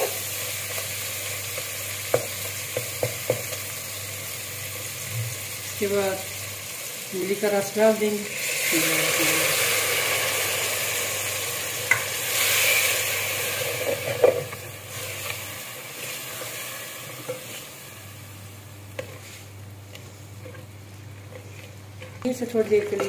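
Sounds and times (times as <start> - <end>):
liquid sizzling in hot pot: 0.0 - 23.0.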